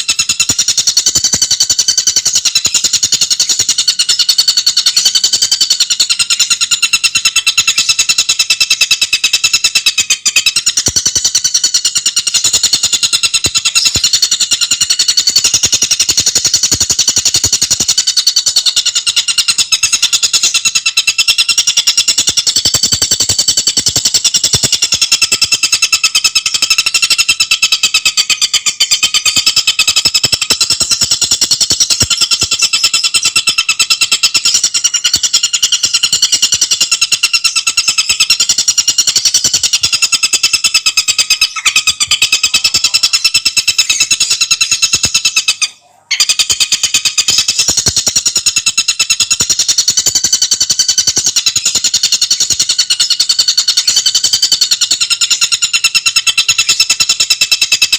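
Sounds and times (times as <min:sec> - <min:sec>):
bird chattering trill: 0:00.0 - 0:57.9.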